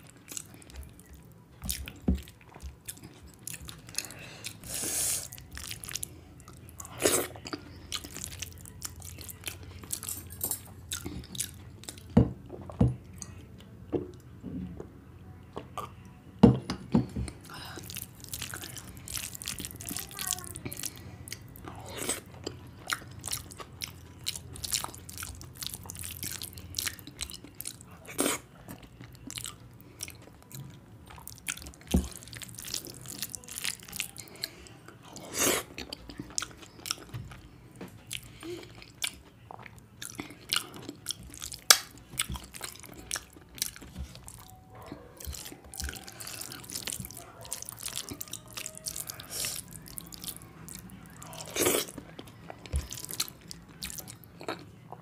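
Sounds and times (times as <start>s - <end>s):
person chewing with mouth smacks: 6.8s - 13.4s, 17.3s - 55.0s.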